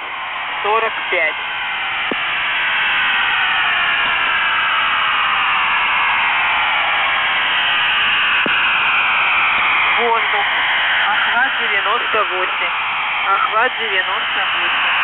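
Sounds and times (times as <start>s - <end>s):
radio radar signal hissing rush: 0.0s - 15.0s.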